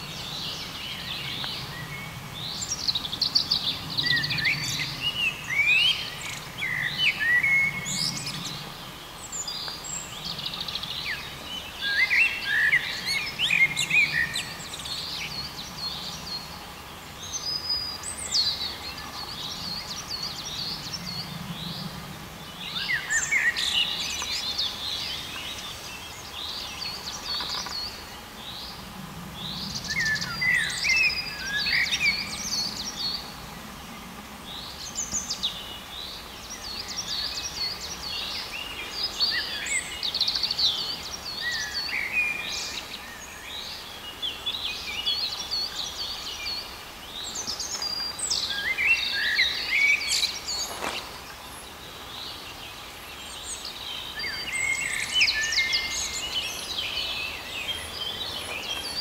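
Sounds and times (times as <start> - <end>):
songbirds chirping and trilling: 0.0 - 59.0
steady outdoor hiss: 0.0 - 59.0.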